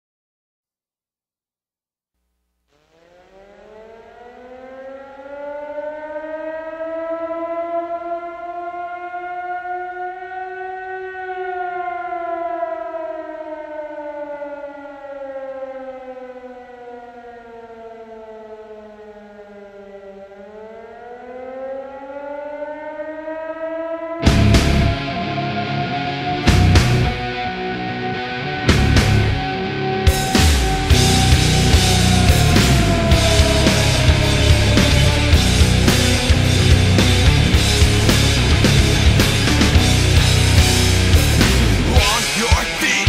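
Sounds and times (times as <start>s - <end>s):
siren wailing: 2.7s - 43.0s.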